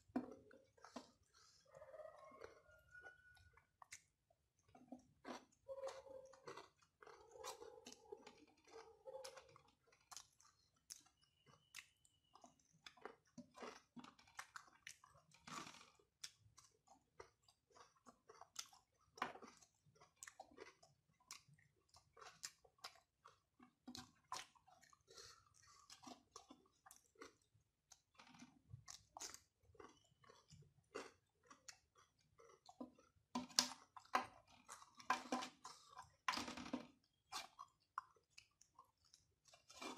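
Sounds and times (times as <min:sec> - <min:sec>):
chewing clicks and lip smacks: 0:00.1 - 0:39.9.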